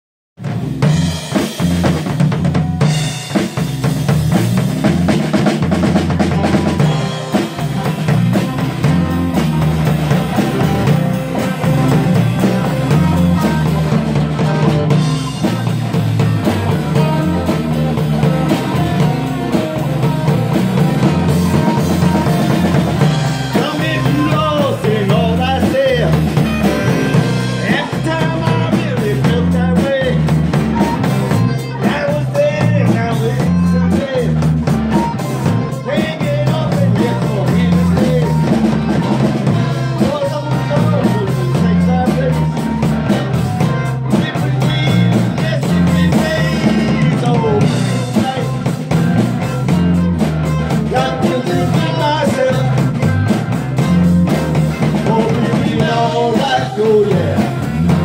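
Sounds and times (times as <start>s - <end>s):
drum kit beat: 0.4s - 58.0s
low bass line: 0.4s - 58.0s.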